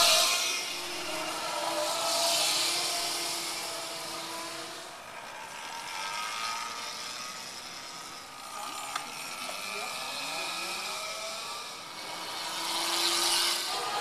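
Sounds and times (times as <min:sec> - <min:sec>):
electric motorcycle motor whine: 0:00.0 - 0:14.0.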